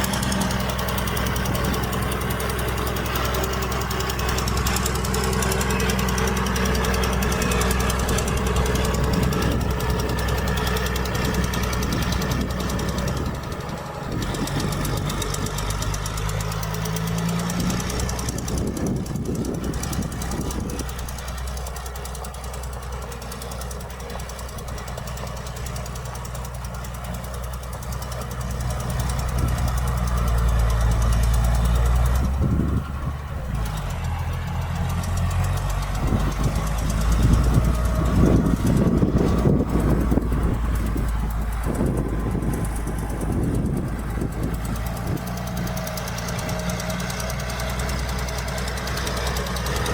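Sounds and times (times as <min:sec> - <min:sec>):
diesel engine of heavy machinery: 0:00.0 - 0:49.9.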